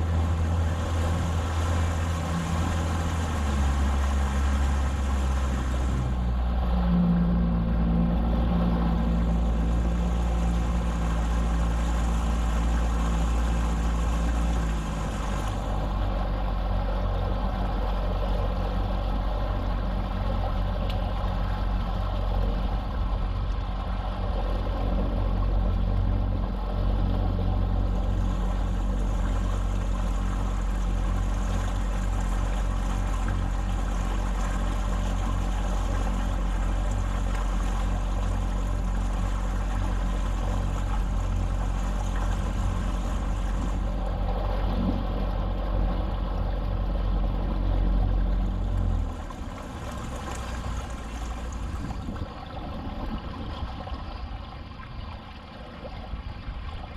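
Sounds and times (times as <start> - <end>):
boat engine running: 0.0 - 56.9.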